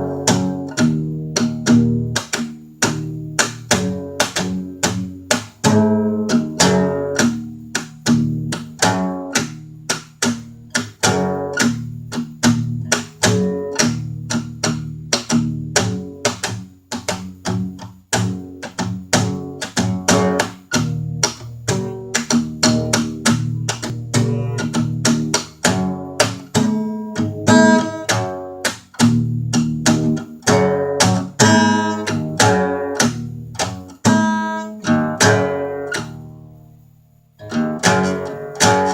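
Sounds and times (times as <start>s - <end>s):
blues guitar playing: 0.0s - 38.9s.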